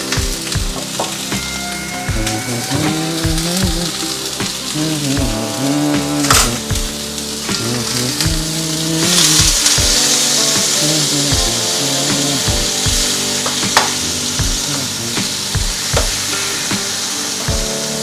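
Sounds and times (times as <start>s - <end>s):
music with repeating bass: 0.0s - 18.0s
pork sizzling in oil: 0.0s - 18.0s.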